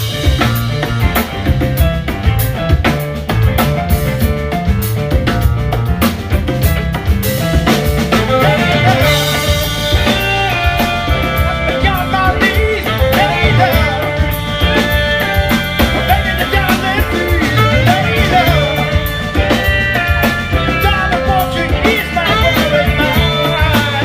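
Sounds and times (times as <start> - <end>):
bending lead melody: 0.0 - 24.0
drum kit groove: 0.0 - 24.0
electric bass: 0.0 - 24.0.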